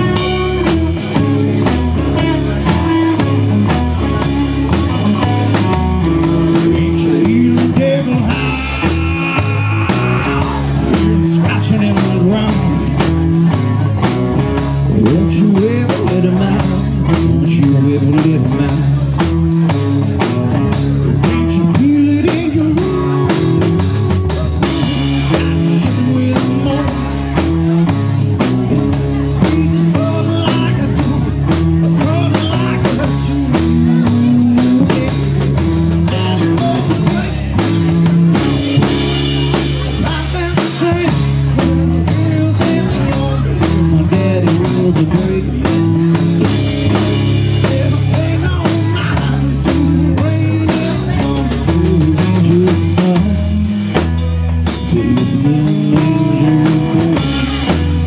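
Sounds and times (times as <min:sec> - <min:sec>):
drum kit steady beat: 0:00.0 - 0:58.0
electric guitars: 0:00.0 - 0:58.0.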